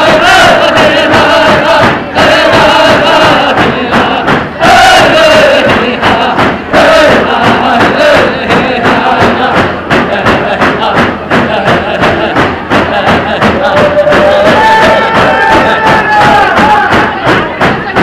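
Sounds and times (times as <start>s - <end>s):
crowd voices: 0.0s - 18.0s
frame drum beats: 0.0s - 18.0s
people singing in unison: 0.0s - 18.0s.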